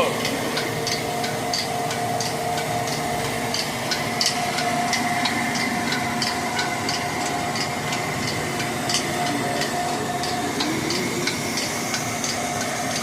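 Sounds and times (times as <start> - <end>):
flour mill humming: 0.0 - 13.0
rapid even ticking: 0.1 - 13.0.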